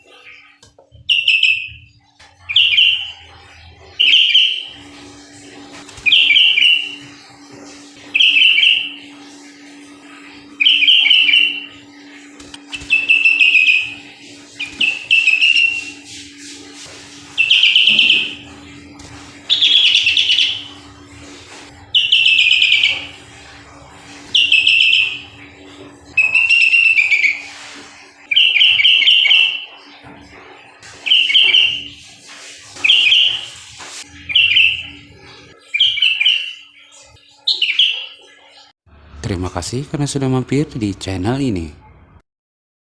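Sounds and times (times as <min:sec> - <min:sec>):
bird chirping song: 0:00.0 - 0:27.6, 0:28.2 - 0:38.7.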